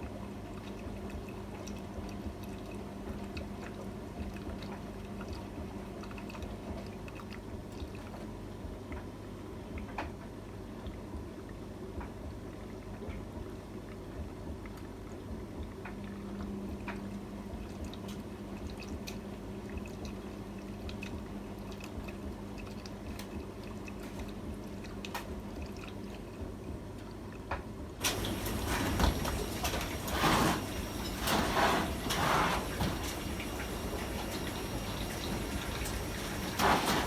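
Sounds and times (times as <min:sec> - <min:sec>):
small clicks and drips: 0:00.0 - 0:37.0
steady hum: 0:00.0 - 0:37.0
water splashing in washing machine: 0:00.0 - 0:37.0.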